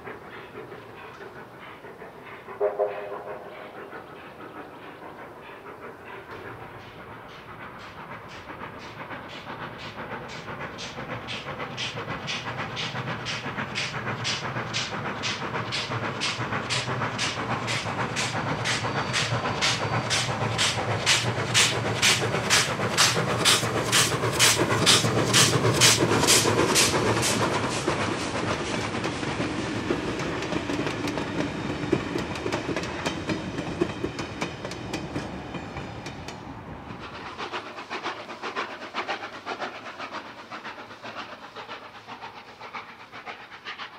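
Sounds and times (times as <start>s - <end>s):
steam locomotive exhaust beats: 0.0s - 43.9s.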